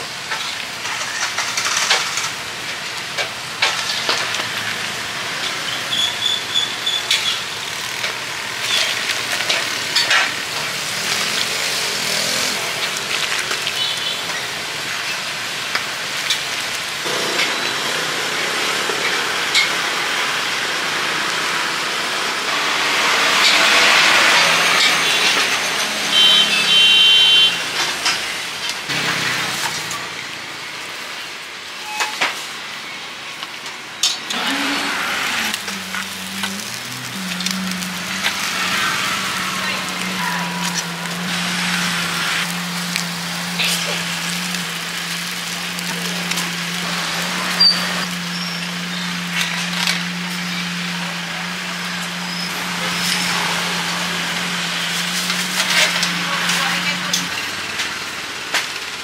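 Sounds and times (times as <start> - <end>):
passing traffic hum: 0.0 - 59.0.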